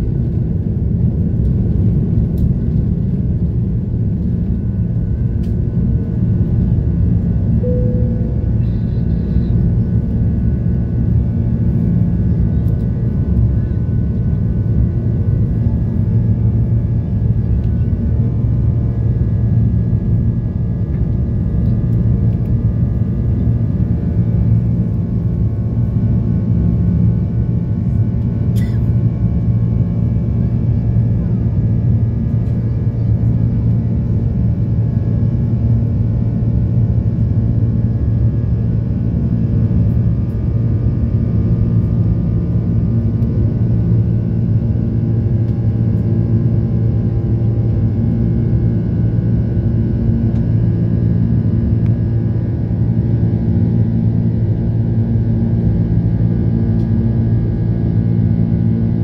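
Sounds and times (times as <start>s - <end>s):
jet engine drone in cabin: 0.0s - 59.0s
steady humming tones: 0.0s - 59.0s.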